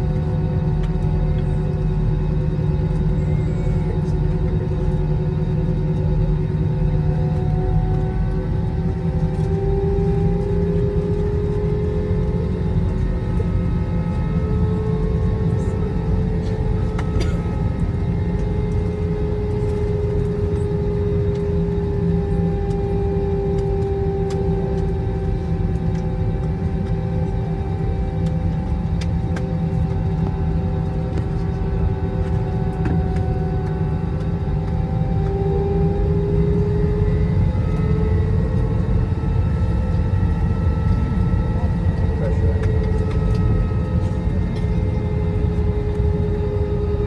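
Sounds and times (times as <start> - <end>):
jet engines humming in cabin: 0.0 - 47.0.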